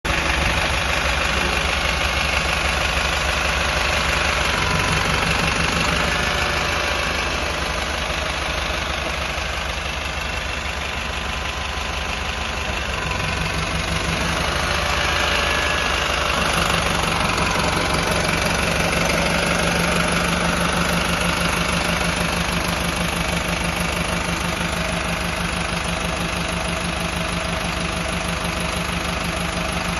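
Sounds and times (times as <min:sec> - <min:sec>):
engine idling: 0:00.0 - 0:29.9.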